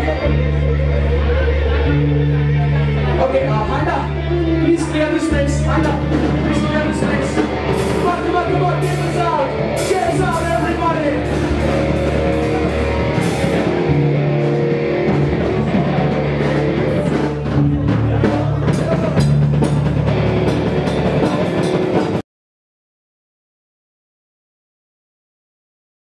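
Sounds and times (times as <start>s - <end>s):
bass guitar: 0.0s - 22.2s
drum kit: 0.0s - 22.2s
electric guitar: 0.0s - 22.2s.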